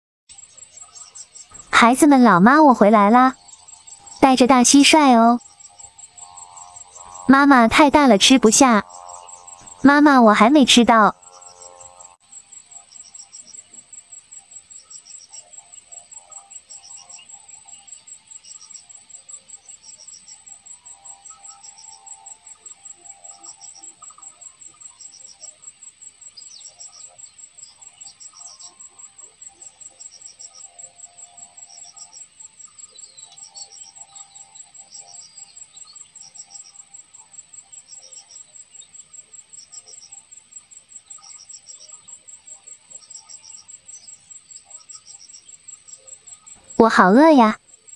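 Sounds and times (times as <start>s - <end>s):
crickets chirping: 0.3s - 47.9s.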